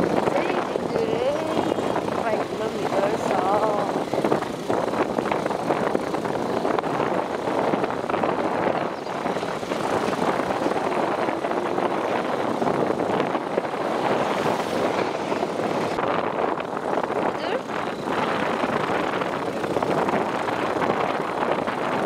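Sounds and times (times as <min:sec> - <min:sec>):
motorcycle riding wind and road noise: 0:00.0 - 0:22.0.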